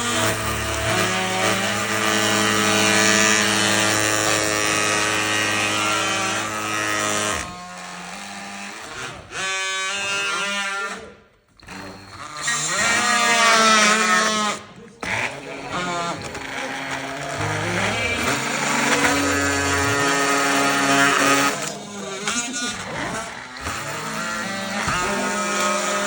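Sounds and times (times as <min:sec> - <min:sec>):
multi-tool cutter motor whining: 0:00.0 - 0:26.0.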